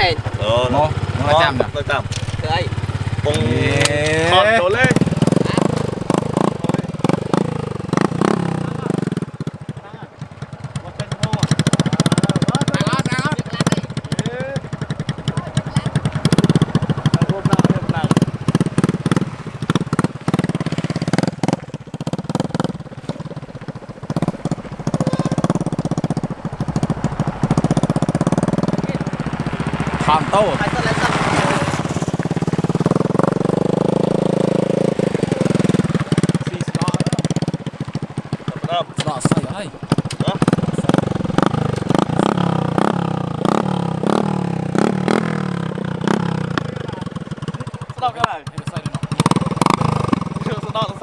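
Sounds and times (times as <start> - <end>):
motorcycle engine pulling away: 0.0 - 51.0.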